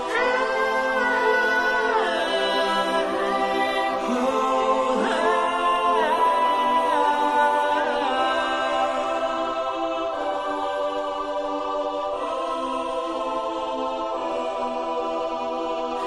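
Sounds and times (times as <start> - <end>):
choir-like a cappella singing: 0.0 - 16.0.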